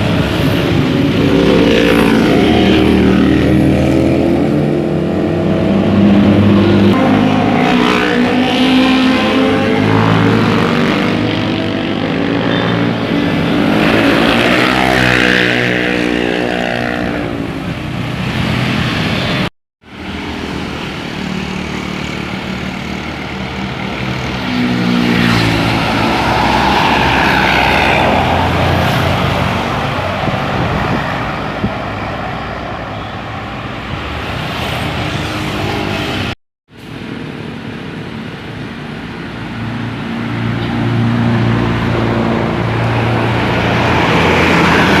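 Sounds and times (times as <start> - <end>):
bus diesel engines passing: 0.0 - 45.0
road and traffic noise: 0.0 - 45.0.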